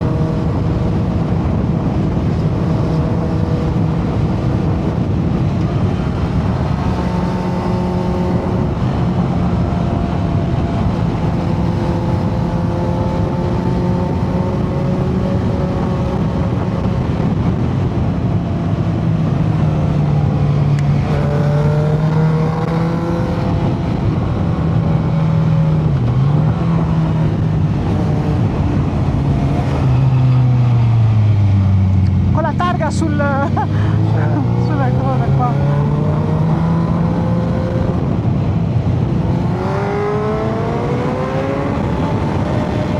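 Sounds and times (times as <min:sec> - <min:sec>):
motorcycle engine running: 0:00.0 - 0:42.9
noisy rush: 0:00.0 - 0:42.9.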